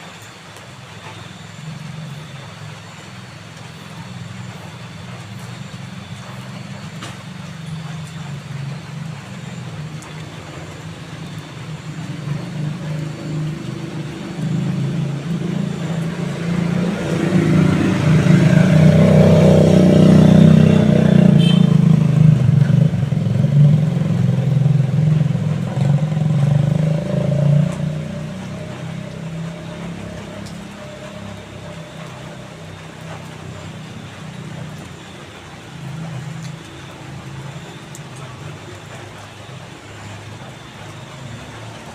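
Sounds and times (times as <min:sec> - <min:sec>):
vehicle engine rumble passing: 0:00.0 - 0:41.9.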